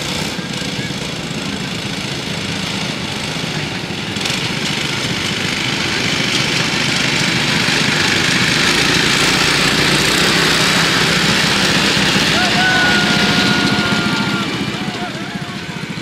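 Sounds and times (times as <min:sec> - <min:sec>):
small locomotive engine running: 0:00.0 - 0:16.0.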